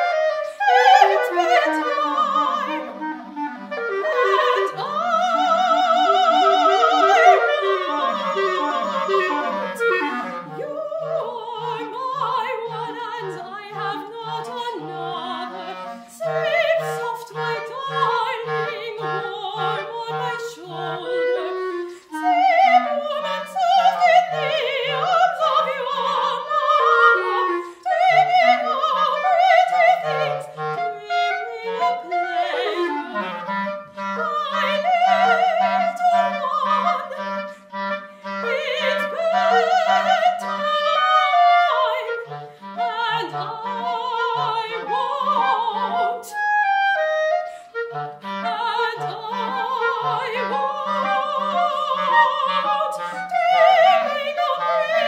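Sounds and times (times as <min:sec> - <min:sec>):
clarinet: 0:00.0 - 0:55.0
operatic soprano singing: 0:00.0 - 0:55.0.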